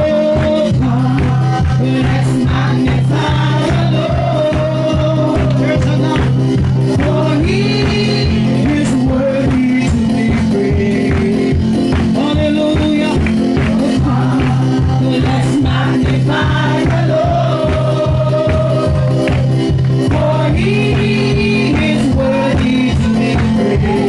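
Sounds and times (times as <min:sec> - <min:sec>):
worship band playing: 0:00.0 - 0:24.0.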